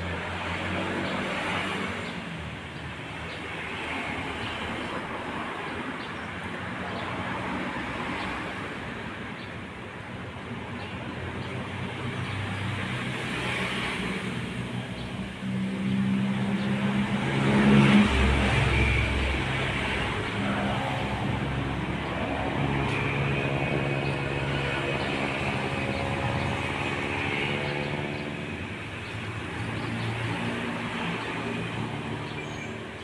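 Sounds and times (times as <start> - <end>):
passing motor vehicles: 0.0 - 33.0.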